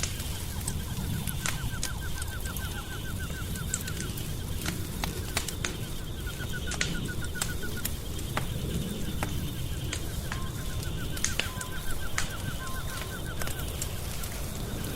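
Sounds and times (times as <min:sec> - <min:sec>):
rapid chirping trill: 0:00.0 - 0:14.7
wood fire crackling: 0:00.0 - 0:14.9.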